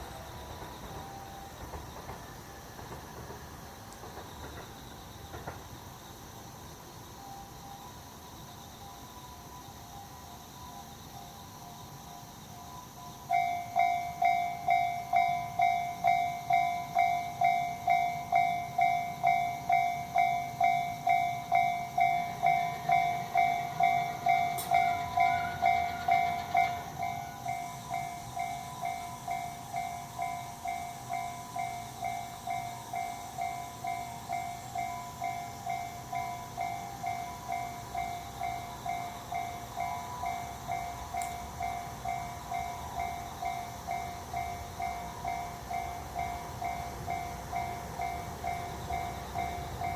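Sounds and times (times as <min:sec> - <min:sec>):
railroad crossing warning bell: 0:00.0 - 0:49.9.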